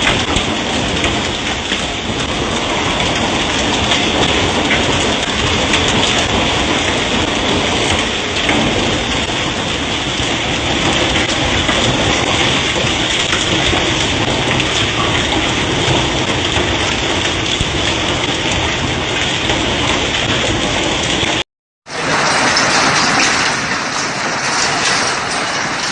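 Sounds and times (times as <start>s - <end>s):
hailstones clattering: 0.0s - 25.9s.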